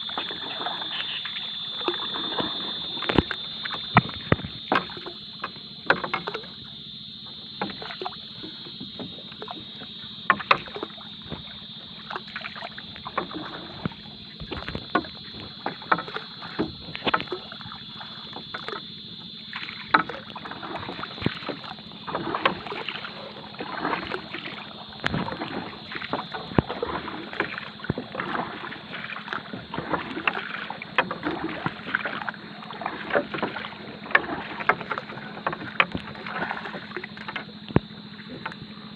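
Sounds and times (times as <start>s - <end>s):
water splashing against hull: 0.0s - 38.9s.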